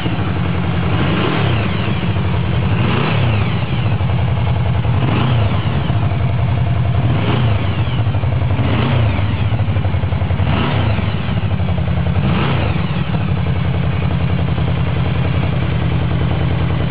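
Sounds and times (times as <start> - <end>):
engine throttle blips: 0.0 - 16.9
motorcycle engine idling: 0.0 - 16.9.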